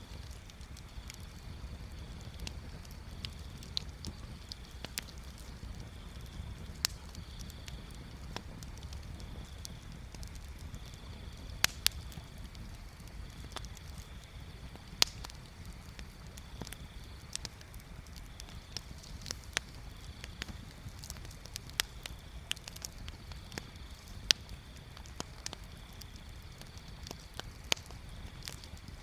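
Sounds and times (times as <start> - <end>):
bonfire crackling and popping: 0.0 - 29.0
low fire rumble: 0.0 - 29.0.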